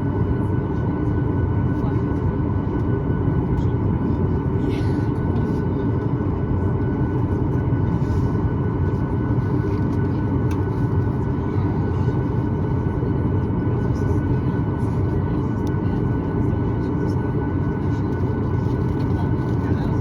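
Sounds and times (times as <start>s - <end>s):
aircraft cabin rumble: 0.0s - 20.0s.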